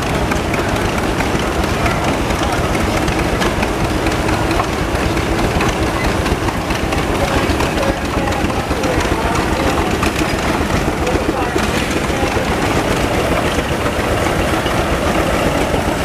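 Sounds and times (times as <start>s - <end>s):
old engines rumbling: 0.0s - 16.0s.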